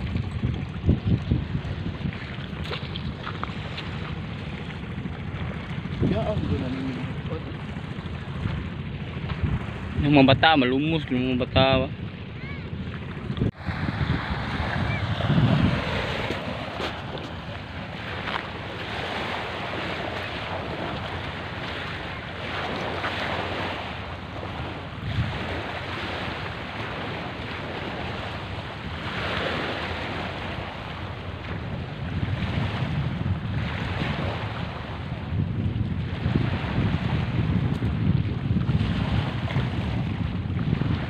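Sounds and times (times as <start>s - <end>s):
small waves washing onto shore: 0.0s - 41.0s
wind buffeting microphone: 0.0s - 41.0s.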